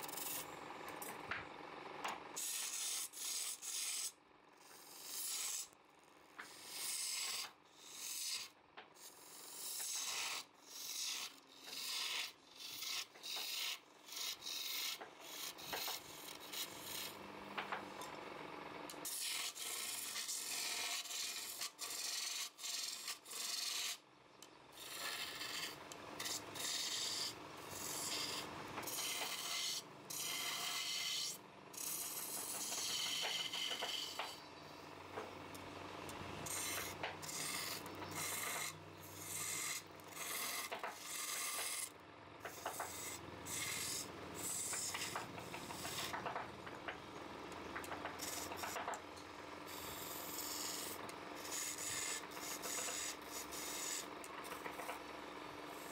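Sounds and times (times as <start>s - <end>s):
wood scraping on a lathe: 4.8s - 5.7s, 6.4s - 18.1s, 19.0s - 24.0s, 24.8s - 55.0s.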